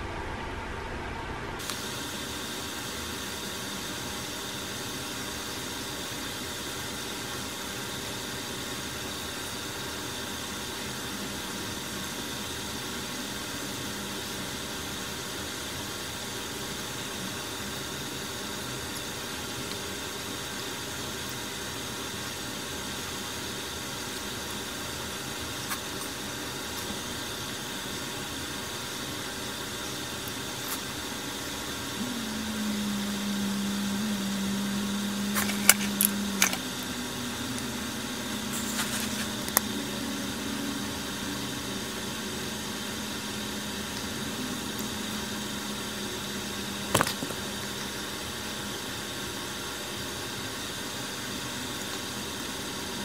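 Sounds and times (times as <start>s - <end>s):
faint high steady tone: 0.0s - 53.0s
room noise hiss: 0.0s - 53.0s.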